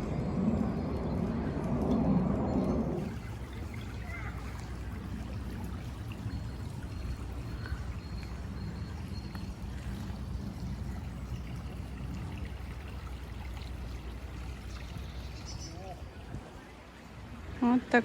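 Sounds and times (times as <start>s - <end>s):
brook flowing: 3.0s - 18.0s.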